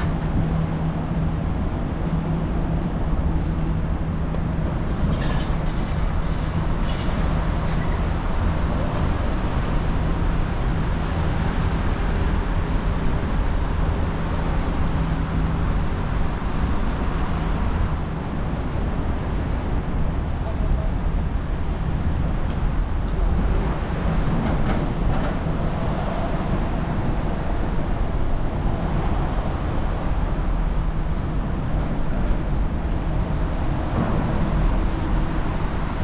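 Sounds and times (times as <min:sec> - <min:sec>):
road traffic hum: 0:00.0 - 0:36.0.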